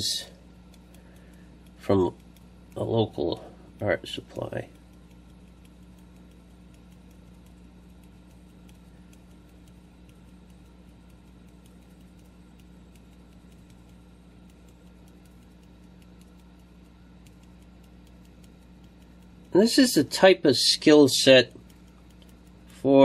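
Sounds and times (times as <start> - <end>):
glitter ticking onto paper: 0.0 - 23.0
low electrical hum: 0.0 - 23.0.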